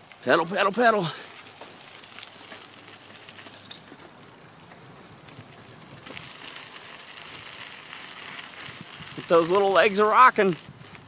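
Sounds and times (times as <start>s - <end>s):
bicycle tyres on dirt trail: 0.0s - 11.0s.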